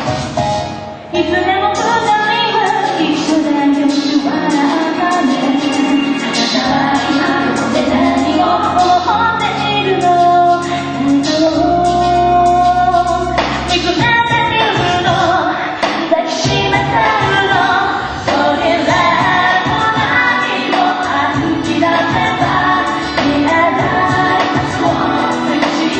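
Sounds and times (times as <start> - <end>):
live band playing: 0.0 - 25.9
person singing: 1.1 - 25.9.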